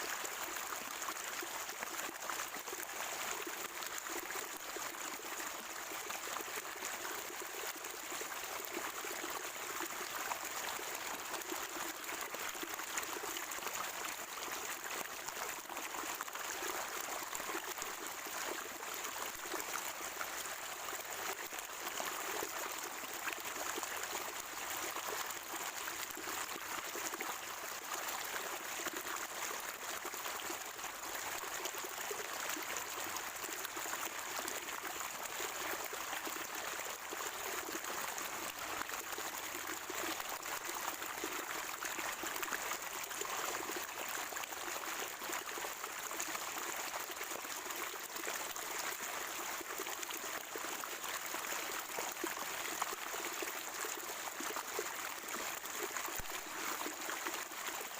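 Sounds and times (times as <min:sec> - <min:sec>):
water trickling and gurgling: 0:00.0 - 0:57.9.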